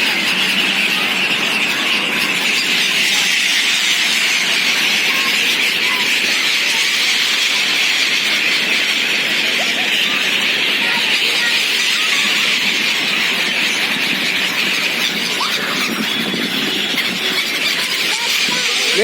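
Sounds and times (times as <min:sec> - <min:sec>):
flock of gulls calling: 0:00.0 - 0:19.0.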